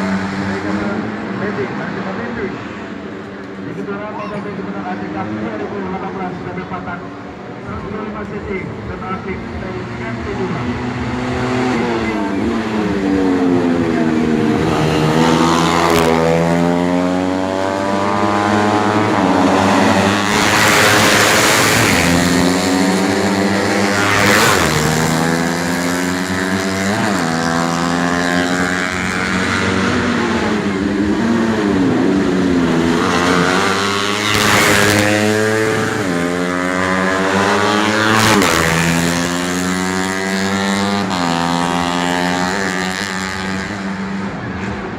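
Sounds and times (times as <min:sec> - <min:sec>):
racing motorcycles at full throttle: 0:00.0 - 0:44.9.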